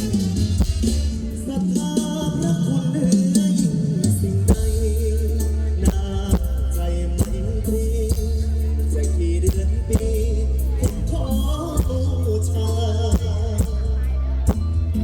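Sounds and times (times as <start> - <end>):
live band music over loudspeakers: 0.0 - 15.0.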